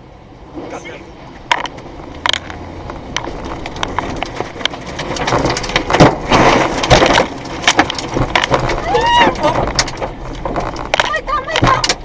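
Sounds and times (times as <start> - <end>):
tornado wind rushing: 0.3 - 12.0
debris knocking and cracking: 1.5 - 12.0.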